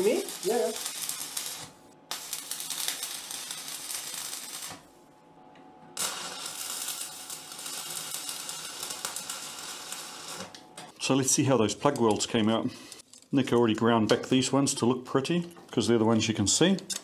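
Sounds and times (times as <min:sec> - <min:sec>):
arc welder crackling and sizzling: 0:00.0 - 0:13.6.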